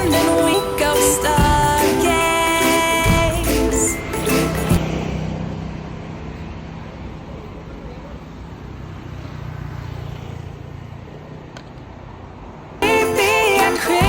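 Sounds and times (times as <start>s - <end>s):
vehicle passing: 0.0s - 13.5s
street traffic rumble: 0.0s - 14.0s.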